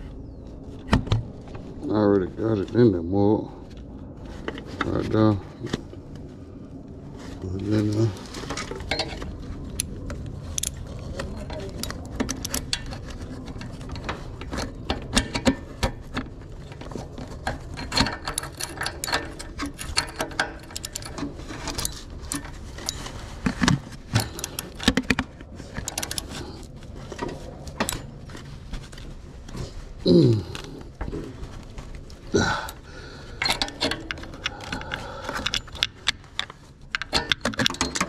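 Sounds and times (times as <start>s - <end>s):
low steady rumble: 0.0s - 37.4s.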